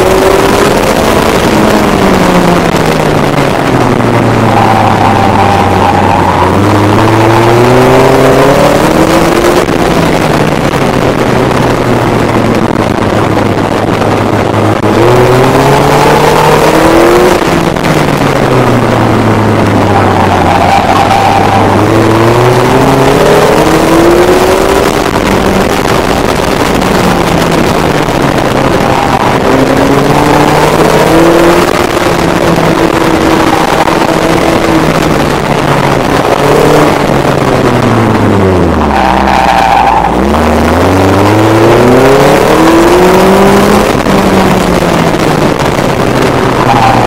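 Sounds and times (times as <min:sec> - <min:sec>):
car engine revving: 0:00.0 - 0:47.0
wind noise: 0:00.0 - 0:47.0.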